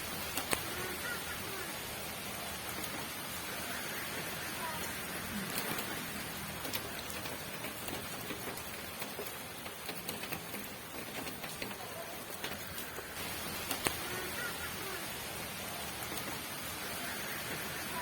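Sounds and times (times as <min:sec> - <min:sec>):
rain hiss: 0:00.0 - 0:18.0
raindrops ticking on a surface: 0:00.0 - 0:18.0.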